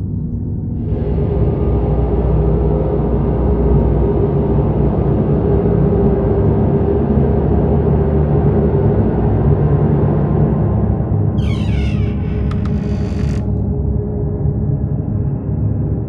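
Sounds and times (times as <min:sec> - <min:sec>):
dark ambient horror score drone: 0:00.0 - 0:16.0.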